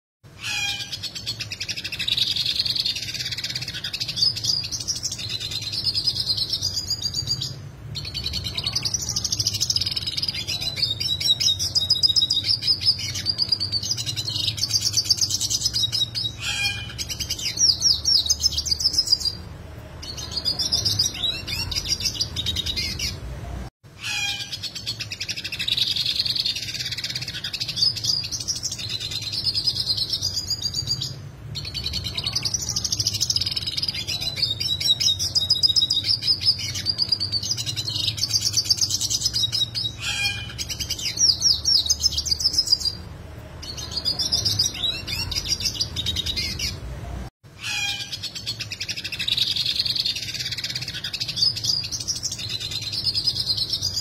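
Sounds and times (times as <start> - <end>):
bird singing with sharp trills: 0.3 - 23.2, 24.0 - 46.8, 47.6 - 54.0.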